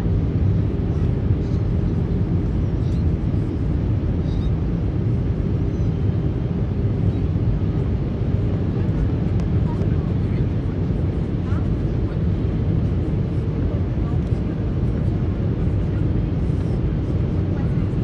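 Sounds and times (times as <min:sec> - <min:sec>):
aircraft engine rumble: 0:00.0 - 0:18.0.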